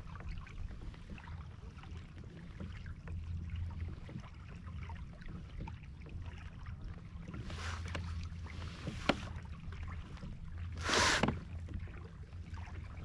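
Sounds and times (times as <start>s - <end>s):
water splashing against kayak hull: 0.0s - 13.0s
water swish: 0.0s - 13.0s.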